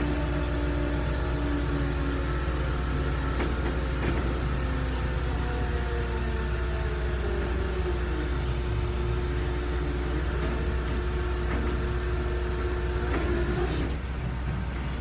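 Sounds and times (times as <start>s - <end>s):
heavy engine humming: 0.0s - 15.0s.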